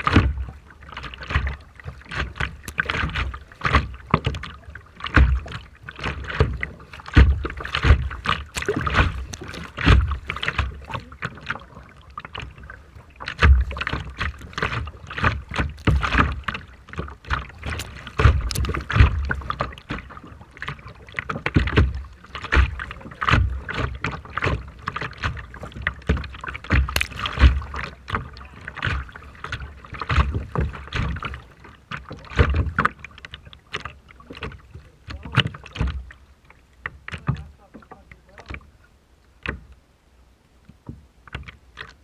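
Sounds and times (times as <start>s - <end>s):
sea water splashing: 0.0s - 39.8s, 40.5s - 42.0s.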